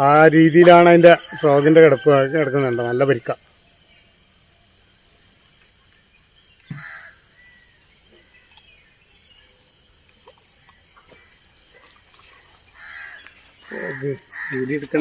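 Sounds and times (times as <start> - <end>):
insects chirring in pulses: 0.0 - 15.0.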